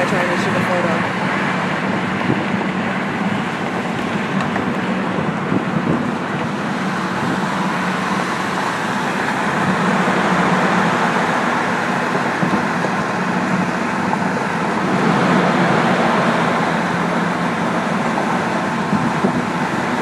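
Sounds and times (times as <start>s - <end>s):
freeway traffic drone: 0.0s - 20.0s.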